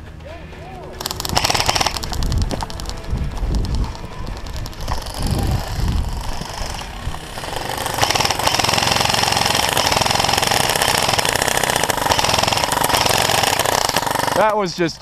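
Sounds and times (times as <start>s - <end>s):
running footsteps: 0.0s - 14.7s
airsoft rifle firing full auto: 1.0s - 14.5s.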